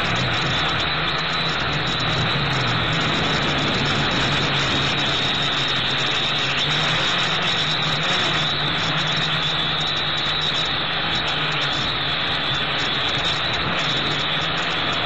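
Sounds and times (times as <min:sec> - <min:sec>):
drone propellers whining: 0:00.0 - 0:15.0
wind rush: 0:00.0 - 0:15.0.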